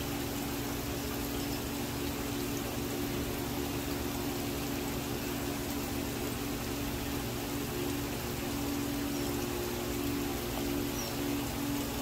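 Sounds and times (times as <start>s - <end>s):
fountain water trickling: 0.0s - 12.0s
pump humming: 0.0s - 12.0s.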